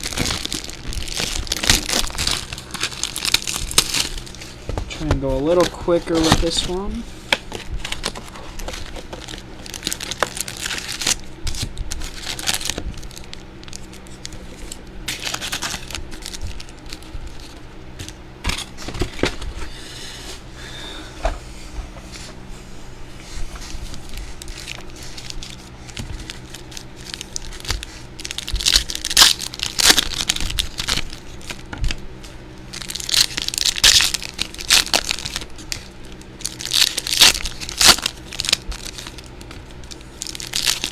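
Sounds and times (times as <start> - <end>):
plastic and foil wrapping crinkling: 0.0 - 19.7, 23.1 - 40.9.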